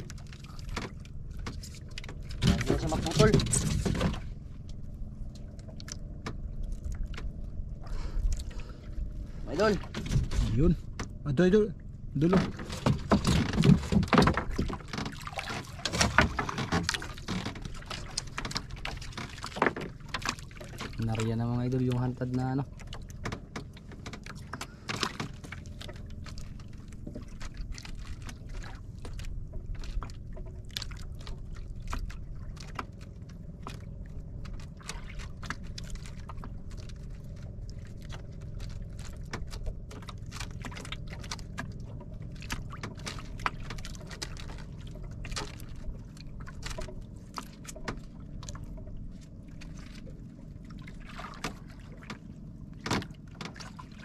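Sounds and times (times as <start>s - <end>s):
low rumble: 0.0s - 54.0s
water lapping against boat hull: 0.0s - 54.0s.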